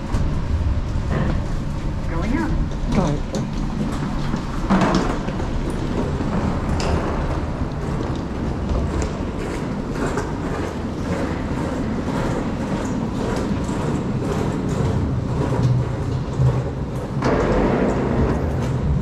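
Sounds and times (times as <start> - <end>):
train rumbling on tracks: 0.0 - 19.0
wheels clicking on rails: 0.0 - 19.0.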